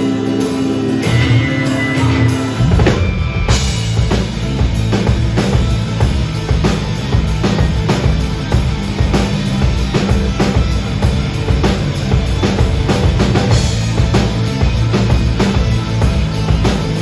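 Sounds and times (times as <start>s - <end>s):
drum kit beat: 0.0s - 17.0s
rock band playing live: 0.0s - 17.0s.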